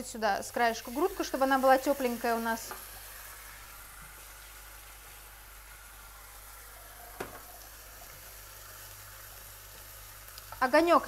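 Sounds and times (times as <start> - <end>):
pot of water boiling: 0.0 - 11.0
vegetables sizzling in frying pan: 0.0 - 11.0.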